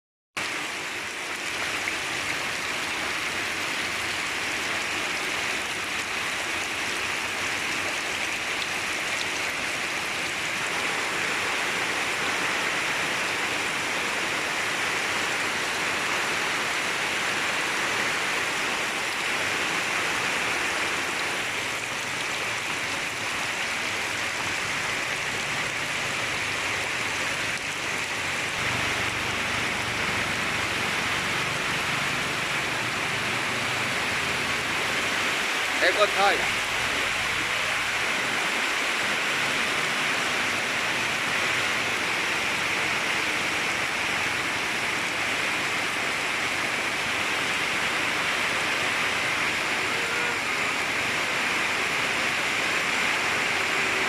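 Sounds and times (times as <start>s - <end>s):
heavy rain: 0.4s - 54.0s.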